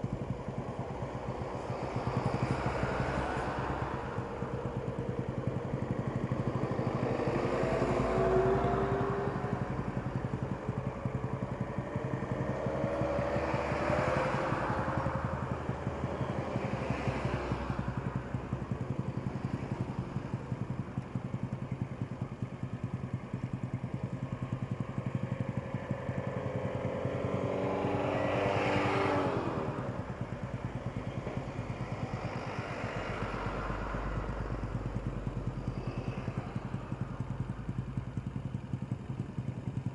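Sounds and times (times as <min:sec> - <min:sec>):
engine idling: 0:00.0 - 0:39.9
motorcycles riding past: 0:00.0 - 0:39.9.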